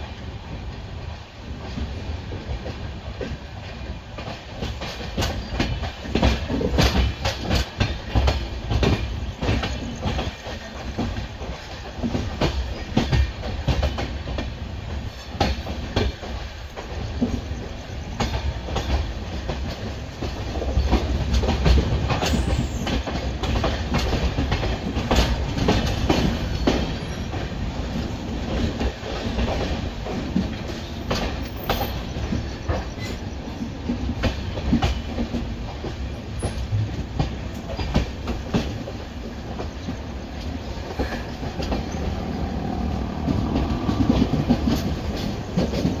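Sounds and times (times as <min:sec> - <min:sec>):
train wheels rumbling on track: 0:00.0 - 0:46.0
wheels clacking over rail joints: 0:01.6 - 0:46.0.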